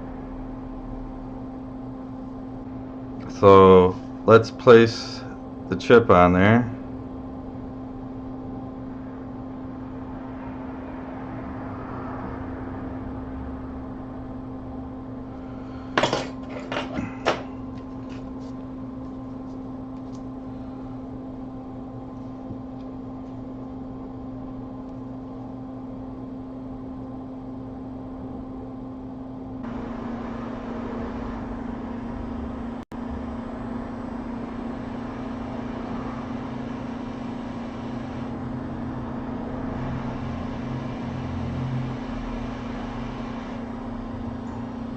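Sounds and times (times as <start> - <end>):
hot-air rework station blowing: 0.0 - 44.9.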